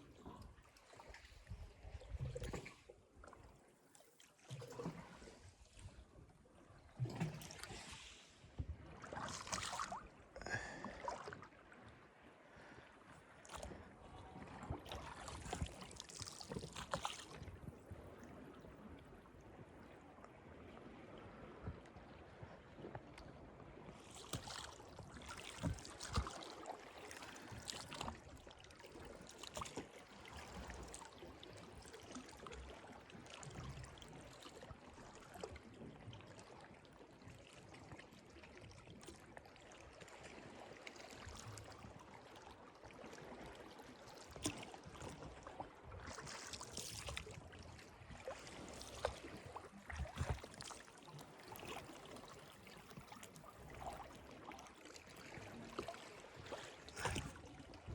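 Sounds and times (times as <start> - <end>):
sea water lapping: 0.0 - 20.2, 23.7 - 57.9.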